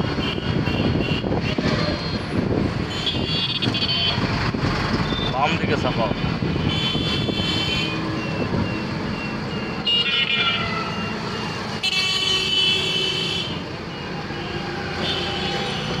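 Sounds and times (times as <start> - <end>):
road noise rumble: 0.0 - 16.0.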